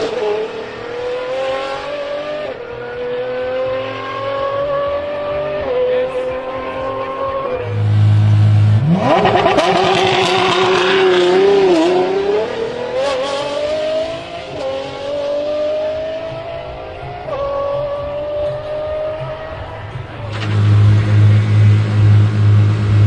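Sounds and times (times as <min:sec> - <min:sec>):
sports car engine revving: 0:00.0 - 0:23.0.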